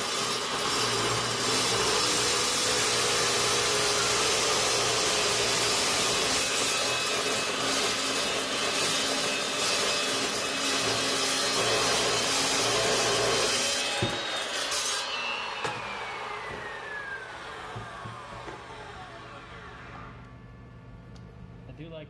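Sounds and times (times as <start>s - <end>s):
chop saw cutting steel tubing: 0.0s - 20.0s
saw blade spinning down: 0.1s - 20.7s.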